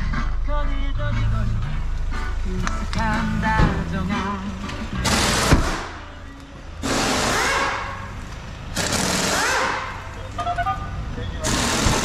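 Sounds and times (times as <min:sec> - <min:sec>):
background music: 0:00.0 - 0:10.1.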